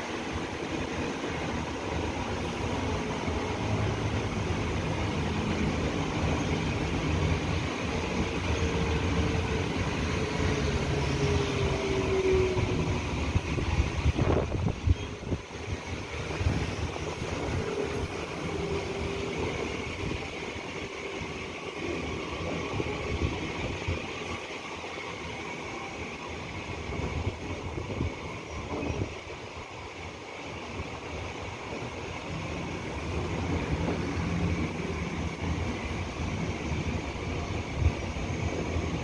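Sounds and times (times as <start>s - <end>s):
electric train passing: 0.0s - 39.0s.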